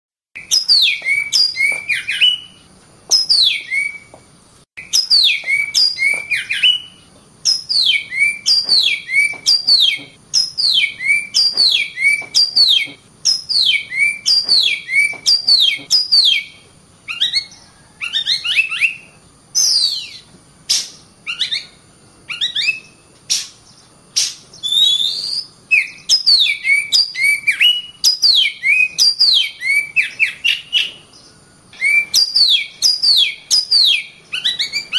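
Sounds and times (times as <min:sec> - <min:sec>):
bird singing clear whistles: 0:00.4 - 0:04.2, 0:04.8 - 0:34.9.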